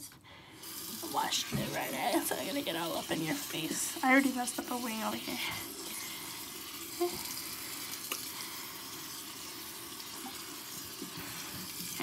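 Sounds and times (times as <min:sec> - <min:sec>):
sink tap water running: 0:00.0 - 0:12.0.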